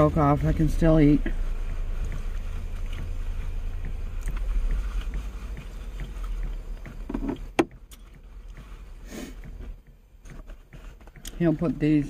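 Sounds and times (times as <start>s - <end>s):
low rumble inside truck cab: 0.0s - 12.0s.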